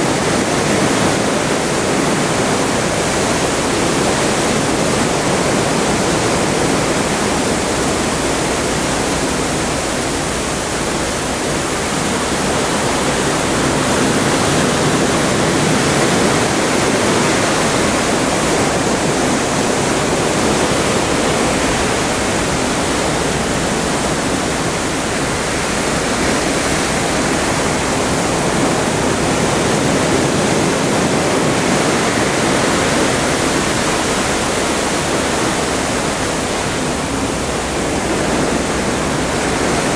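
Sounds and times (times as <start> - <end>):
seawater rushing along ship hull: 0.0 - 39.9.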